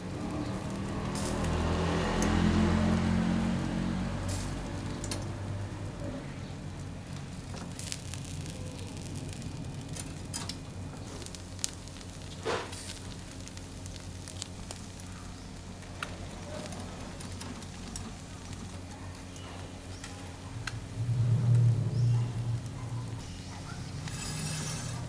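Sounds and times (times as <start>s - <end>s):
crackles and pops: 0.0s - 25.0s
fish sizzling on a grill: 0.0s - 25.0s
smoke extractor humming: 0.0s - 25.0s.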